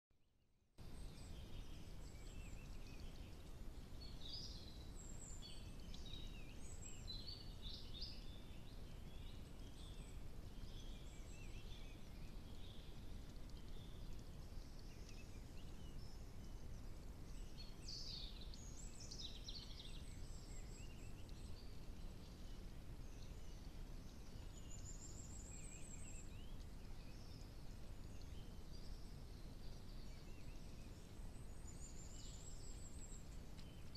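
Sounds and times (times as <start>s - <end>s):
birds chirping: 0.8s - 33.9s
low background hiss: 0.8s - 33.9s.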